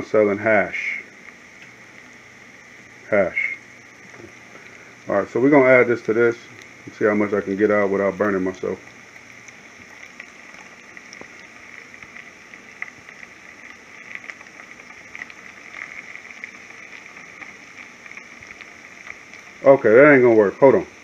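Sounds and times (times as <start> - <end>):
onion sizzling in frying pan: 0.0 - 21.0.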